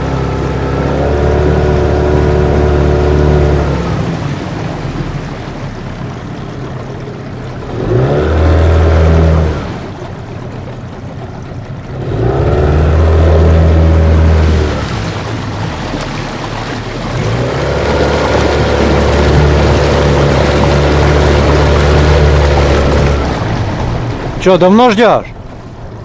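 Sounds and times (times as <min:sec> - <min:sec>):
outboard motor running: 0:00.0 - 0:26.0
water rushing along hull: 0:00.0 - 0:26.0.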